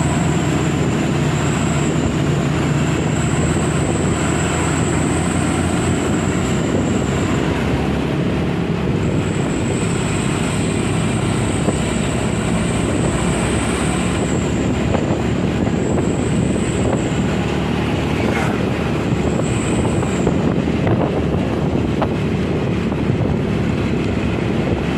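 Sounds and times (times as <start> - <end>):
truck engine rumbling: 0.0 - 24.9.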